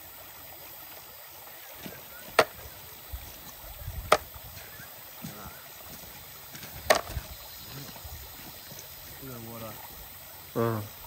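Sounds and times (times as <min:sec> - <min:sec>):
shallow river rushing: 0:00.0 - 0:11.0.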